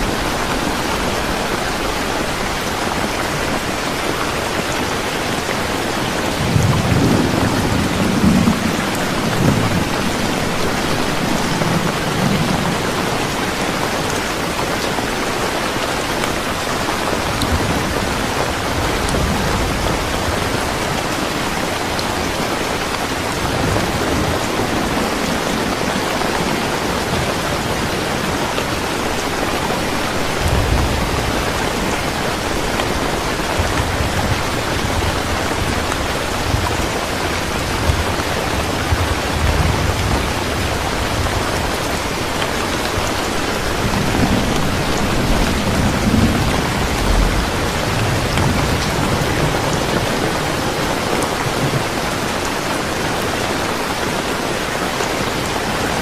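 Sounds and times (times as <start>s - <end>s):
steady rain falling: 0.0s - 56.0s
low thunder rumbling: 4.6s - 13.8s, 17.0s - 53.3s.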